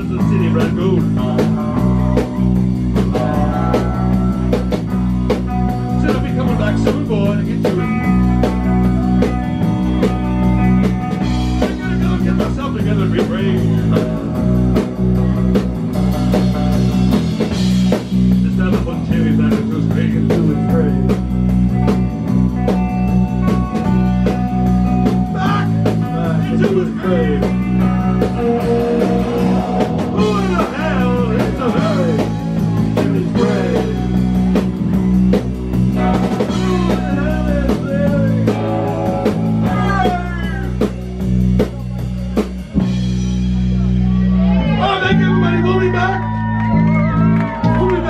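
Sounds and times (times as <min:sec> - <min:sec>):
bass guitar: 0:00.0 - 0:48.0
drum kit beat: 0:00.0 - 0:48.0
electric guitar: 0:00.0 - 0:48.0.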